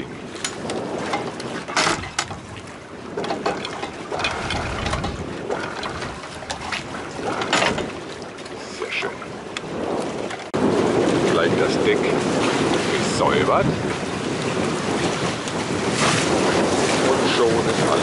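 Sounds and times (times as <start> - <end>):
wind and water rushing: 0.0 - 18.0.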